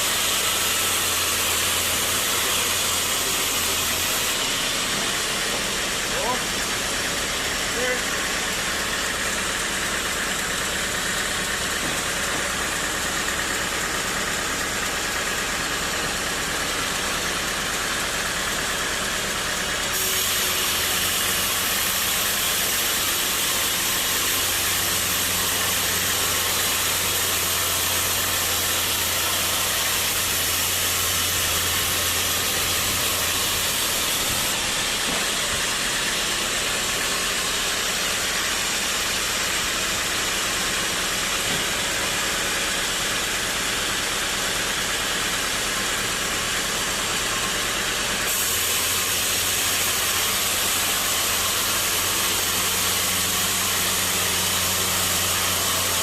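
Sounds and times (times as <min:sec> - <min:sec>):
sawmill machinery hissing: 0:00.0 - 0:56.0.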